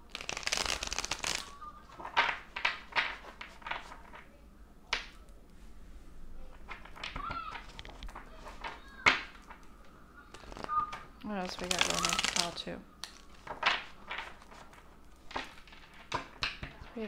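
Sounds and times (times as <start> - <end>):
cards being shuffled: 0.0 - 4.3, 6.5 - 16.8.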